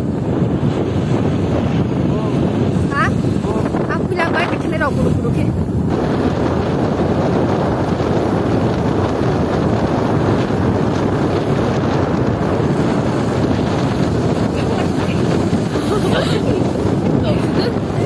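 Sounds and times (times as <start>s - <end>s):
motorcycle running: 0.0s - 18.0s
wind buffeting microphone: 0.0s - 18.0s.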